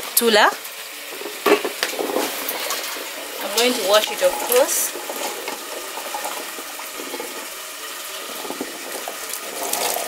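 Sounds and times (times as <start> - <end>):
water sloshing in metal pot: 0.9 - 10.0.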